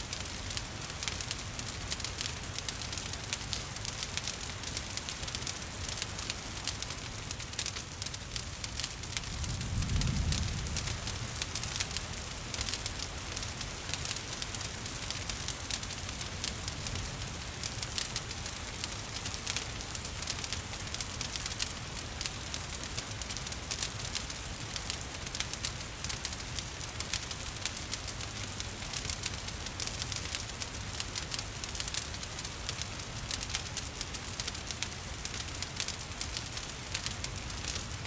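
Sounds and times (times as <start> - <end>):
rain hiss: 0.0 - 38.0
wood fire crackling: 0.0 - 38.0.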